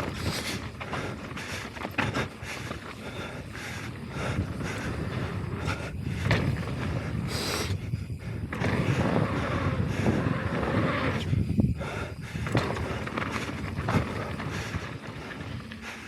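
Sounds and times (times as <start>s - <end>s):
wind rushing over microphone: 0.0s - 15.9s
bike knocking and rattling: 0.0s - 16.0s
bike tyres on loose dirt: 0.0s - 16.0s.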